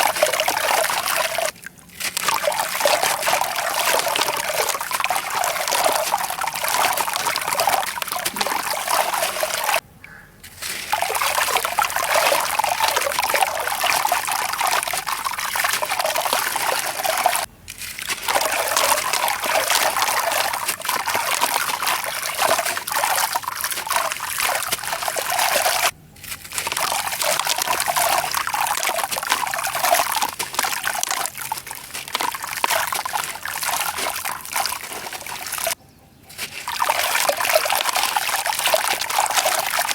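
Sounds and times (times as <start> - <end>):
sand and concrete crumbling: 0.0 - 9.8, 10.4 - 39.9.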